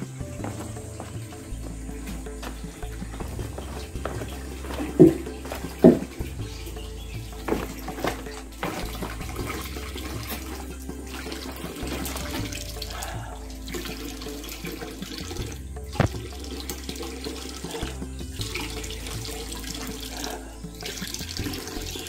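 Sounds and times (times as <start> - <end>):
water splashing into drum: 0.4 - 22.0.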